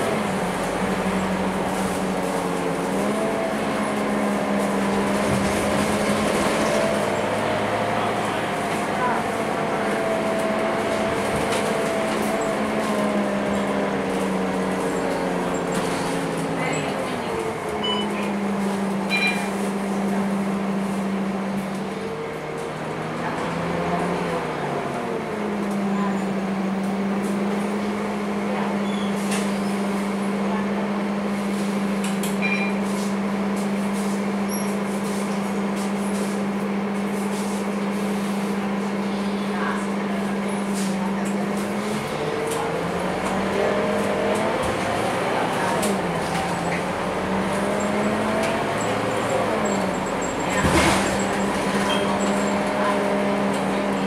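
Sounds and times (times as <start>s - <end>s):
bus engine whining from inside: 0.0s - 54.0s.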